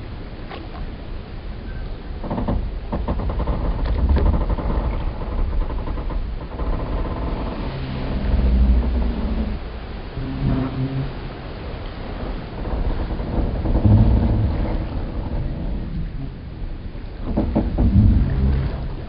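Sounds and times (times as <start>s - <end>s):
steady low rumble: 0.0s - 19.0s
wooden timbers creaking: 1.7s - 19.0s.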